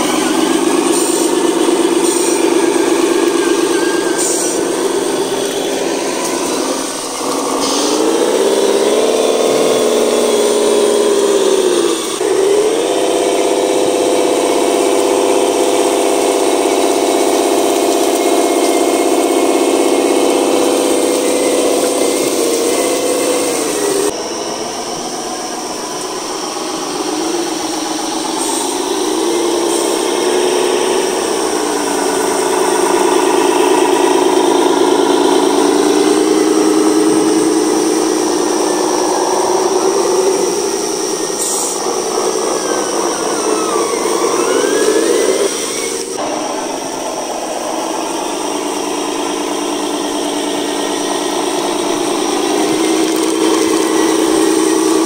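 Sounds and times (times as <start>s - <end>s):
model truck motor whining: 0.0s - 55.0s.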